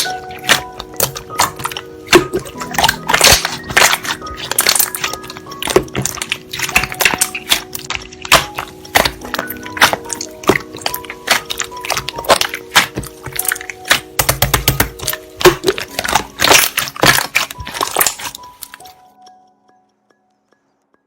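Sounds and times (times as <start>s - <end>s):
slime crackling pops: 0.0s - 18.8s
soft background music: 0.0s - 21.0s.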